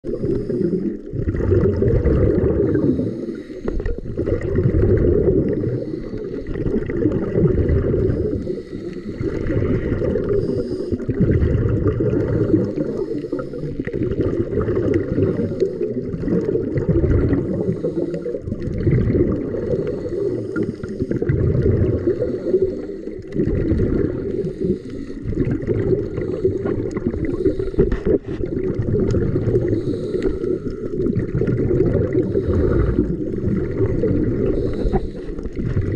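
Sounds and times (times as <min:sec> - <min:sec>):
underwater bubbles gurgling: 0:00.0 - 0:35.9.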